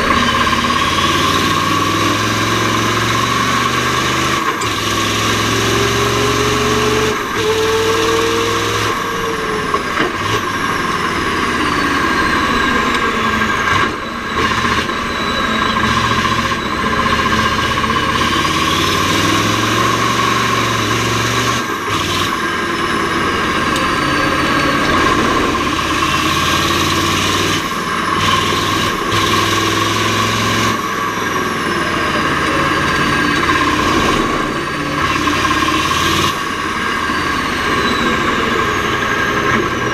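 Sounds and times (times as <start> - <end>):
diesel truck engine running hard: 0.0 - 39.9.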